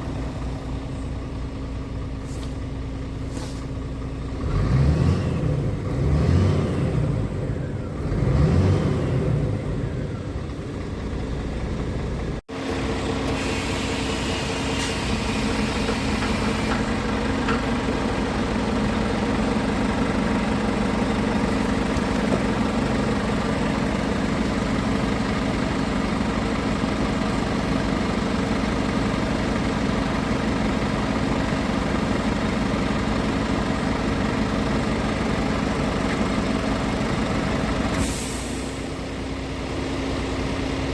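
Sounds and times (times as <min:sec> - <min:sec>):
diesel truck engine idling: 0:00.0 - 0:40.9
diesel truck engine revving: 0:02.1 - 0:40.9.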